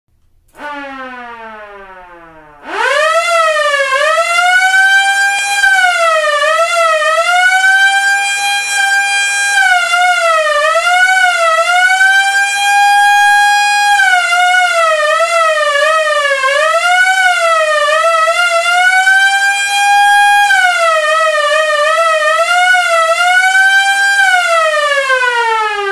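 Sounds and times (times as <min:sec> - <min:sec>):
police siren wailing: 0:00.5 - 0:25.9.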